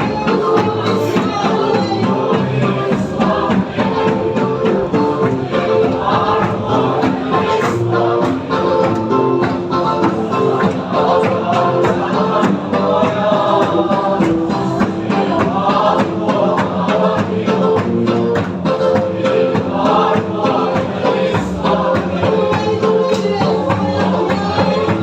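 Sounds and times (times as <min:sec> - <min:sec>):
group singing a worship song: 0:00.0 - 0:25.0
percussion beat: 0:00.0 - 0:25.0.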